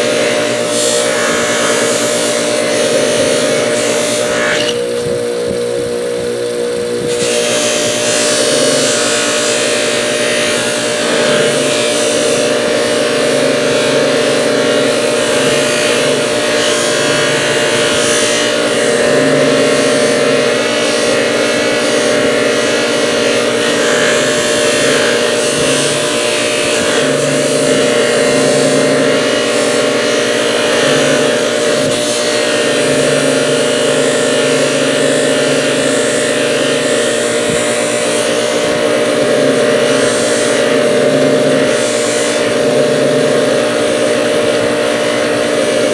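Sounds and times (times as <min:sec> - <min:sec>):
polishing wheel motor hum: 0:00.0 - 0:45.9.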